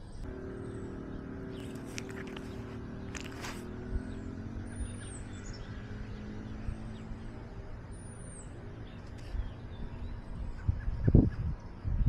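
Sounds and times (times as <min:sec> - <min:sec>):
bird chirp: 0:00.0 - 0:12.0.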